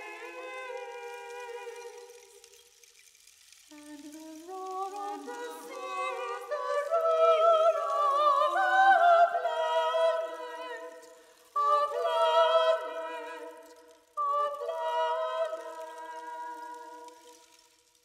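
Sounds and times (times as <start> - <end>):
classical vocal duet: 0.0 - 2.8, 3.6 - 18.0.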